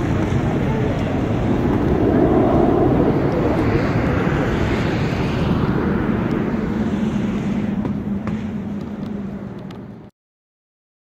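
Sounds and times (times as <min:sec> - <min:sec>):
jet engine roar: 0:00.0 - 0:10.1.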